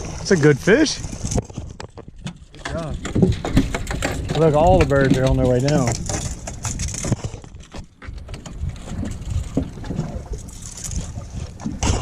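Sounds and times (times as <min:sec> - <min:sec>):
water slapping against hull: 0:00.0 - 0:12.0
wind buffeting microphone: 0:00.0 - 0:12.0
clicks and knocks aboard: 0:01.0 - 0:12.0.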